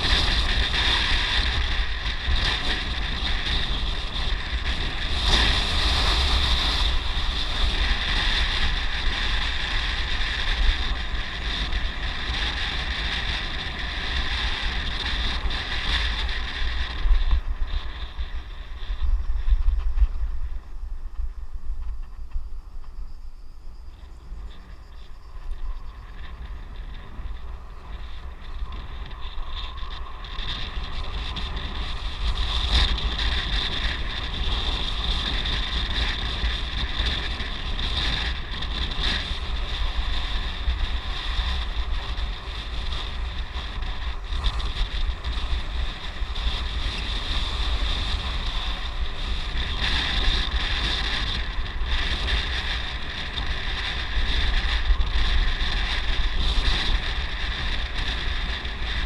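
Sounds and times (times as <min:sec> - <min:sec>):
low rumble of road travel: 0:00.0 - 0:59.0
wind rushing over microphone: 0:00.0 - 0:59.0.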